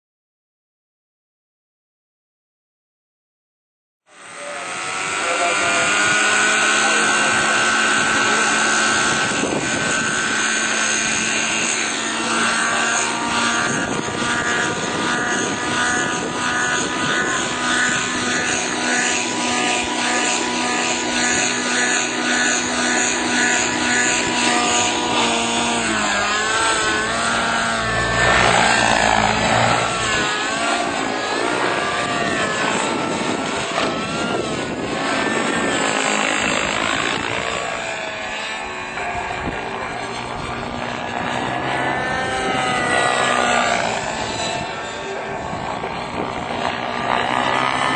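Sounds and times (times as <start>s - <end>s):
helicopter engine and rotor: 4.1s - 47.9s.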